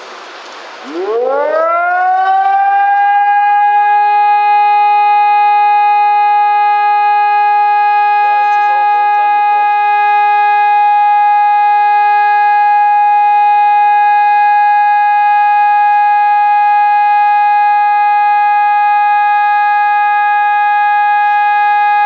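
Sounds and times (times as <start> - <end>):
warning siren steady tone: 0.8 - 22.0.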